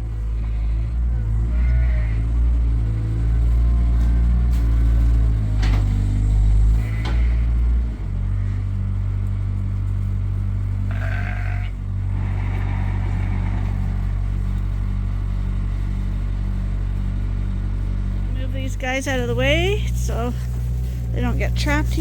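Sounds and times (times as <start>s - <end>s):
skid steer engine running: 0.0s - 22.0s.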